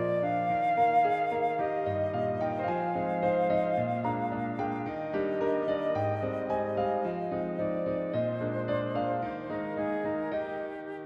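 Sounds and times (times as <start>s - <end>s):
flute-like melody: 0.0s - 11.0s
piano: 0.0s - 11.0s.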